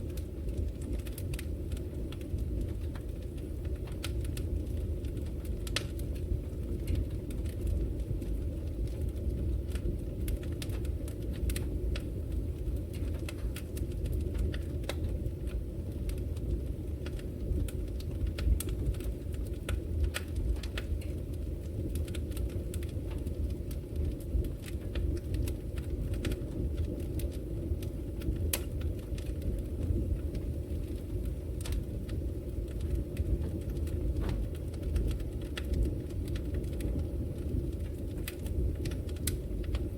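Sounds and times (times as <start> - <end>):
logs burning in fireplace: 0.0 - 39.9.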